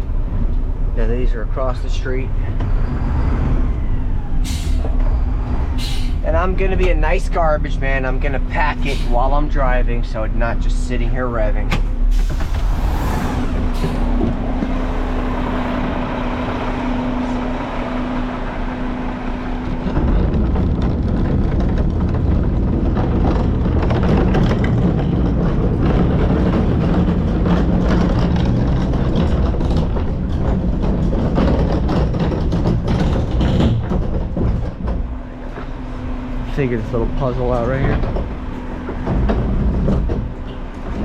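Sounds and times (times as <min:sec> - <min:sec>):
garbage truck engine: 0:00.0 - 0:41.0.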